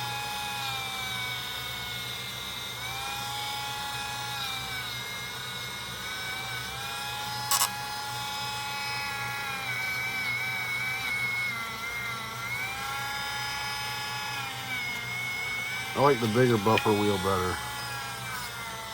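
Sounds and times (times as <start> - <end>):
rotary tool whining: 0.2 - 18.9.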